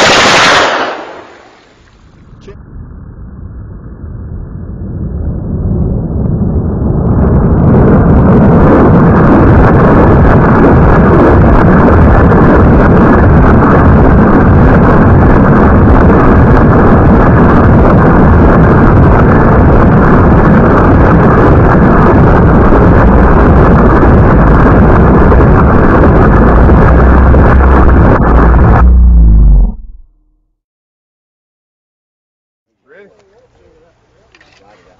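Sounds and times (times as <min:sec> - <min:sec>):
wind buffeting microphone: 0:00.0 - 0:30.3.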